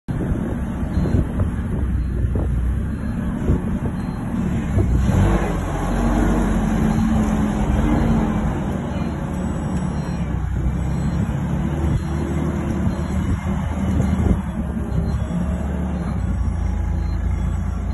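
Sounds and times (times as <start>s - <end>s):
forklift engine running: 0.1s - 17.9s.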